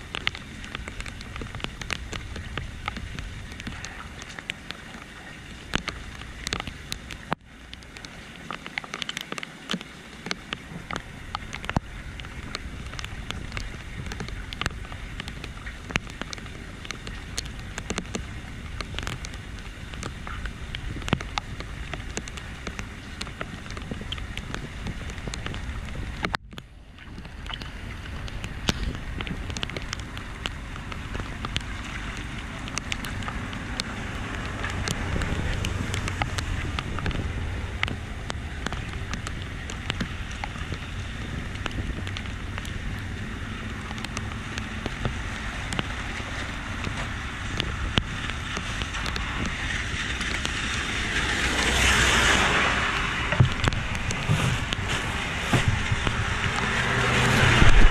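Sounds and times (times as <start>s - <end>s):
small water splashes: 0.0s - 57.9s
water rushing into storm drain: 0.0s - 57.9s
wind buffeting microphone: 10.6s - 57.9s.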